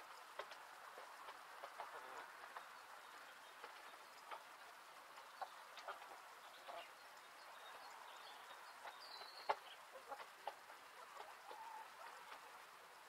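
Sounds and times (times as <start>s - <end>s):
hens clucking: 0.0s - 12.7s.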